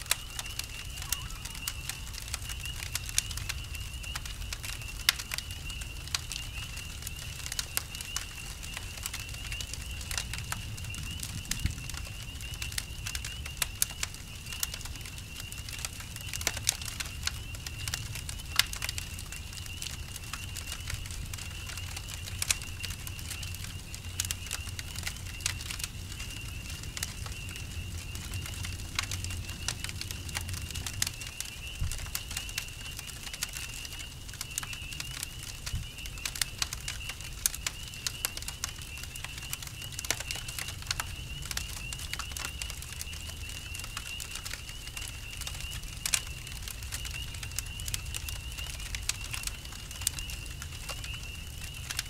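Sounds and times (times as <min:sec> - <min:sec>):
campfire crackling and popping: 0:00.0 - 0:52.0
crickets trilling: 0:00.0 - 0:52.0.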